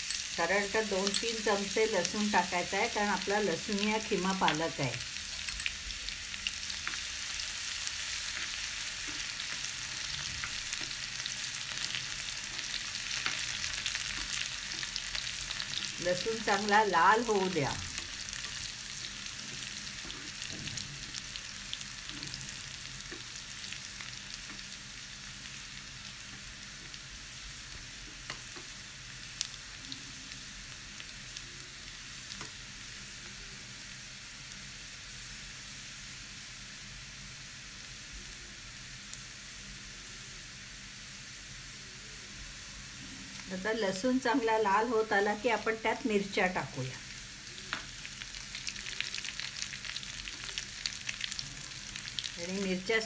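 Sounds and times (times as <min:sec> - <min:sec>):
garlic sizzling in hot oil: 0:00.0 - 0:53.0.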